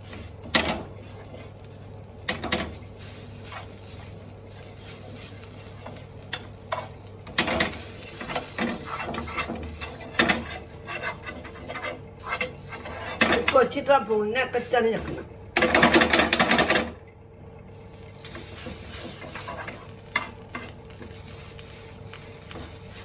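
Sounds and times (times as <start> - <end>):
utensil scraping and knocking pan: 0.0 - 13.9, 18.3 - 23.0
spices sizzling in ghee: 0.0 - 16.4, 17.7 - 23.0.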